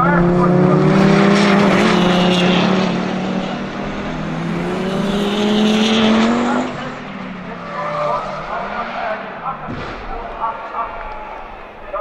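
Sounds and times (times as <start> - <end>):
sports car engine accelerating: 0.0 - 9.7.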